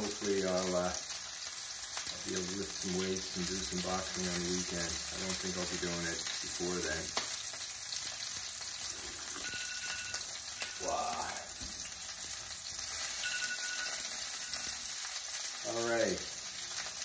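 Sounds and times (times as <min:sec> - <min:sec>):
steaks sizzling in a pan: 0:00.0 - 0:17.0.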